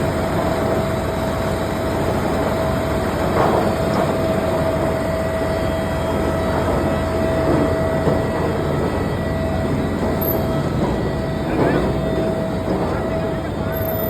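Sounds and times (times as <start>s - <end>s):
constant machine whine: 0.0s - 14.0s
road repair machine engine running: 0.0s - 14.0s.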